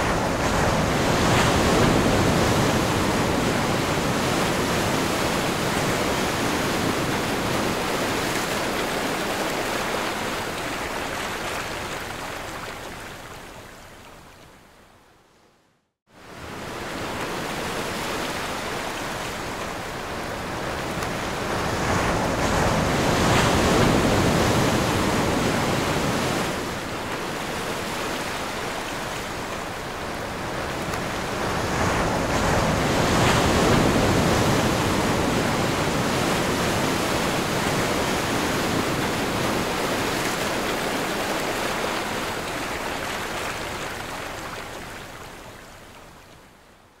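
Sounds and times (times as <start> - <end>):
ocean waves breaking: 0.0 - 14.2, 16.2 - 46.3.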